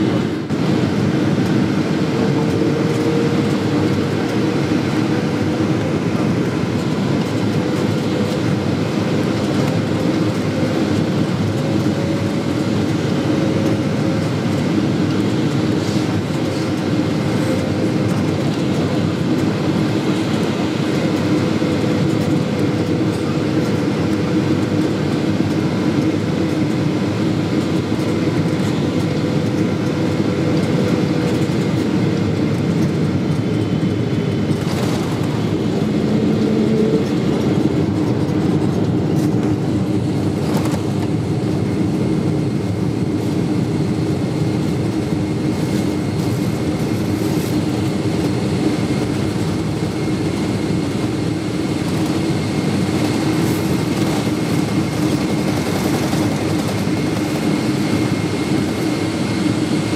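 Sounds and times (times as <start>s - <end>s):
airflow noise: 0.0s - 59.9s
airplane cabin rumble: 0.0s - 59.9s
jet engines humming: 0.0s - 59.9s.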